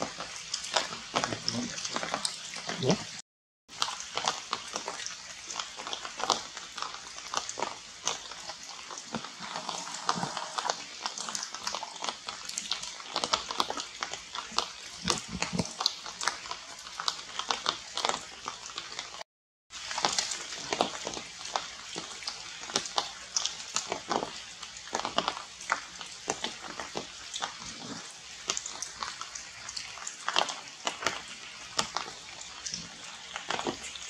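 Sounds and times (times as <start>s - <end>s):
water dripping on leaves: 0.0s - 19.2s, 19.8s - 34.0s.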